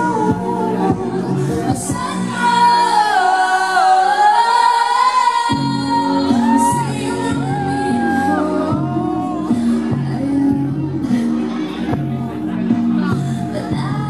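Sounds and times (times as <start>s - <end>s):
backing music: 0.0s - 14.0s
woman singing pop vocal: 0.0s - 14.0s.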